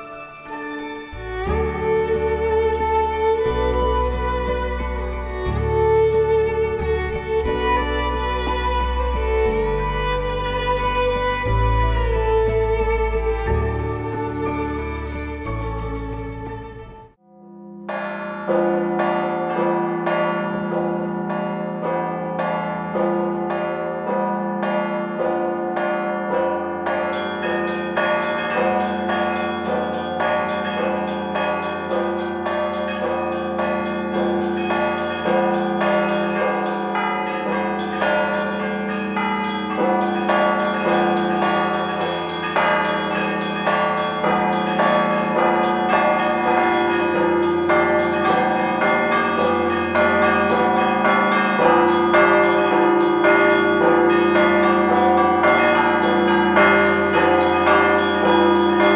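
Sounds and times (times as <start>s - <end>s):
church bells chiming: 0.0s - 16.4s, 17.2s - 58.9s
deep hum of large bells: 0.0s - 58.9s.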